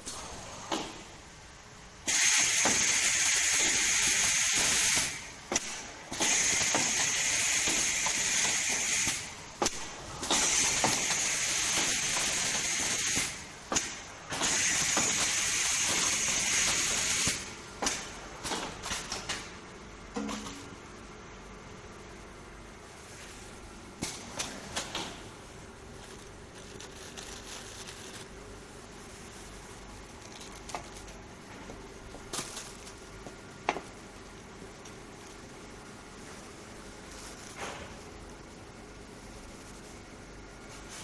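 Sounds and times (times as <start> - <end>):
wrapping machine hissing: 2.0 - 19.5, 22.8 - 41.0.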